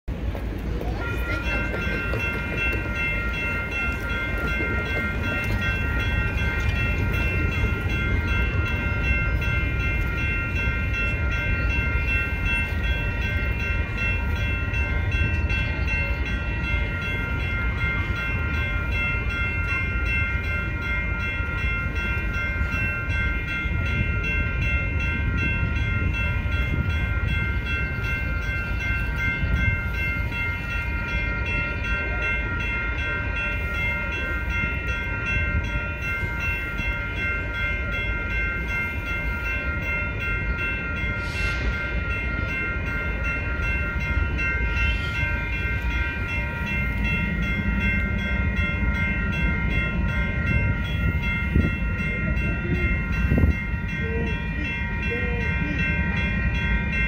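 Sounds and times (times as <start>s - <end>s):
railroad crossing bell ringing: 0.1s - 57.0s.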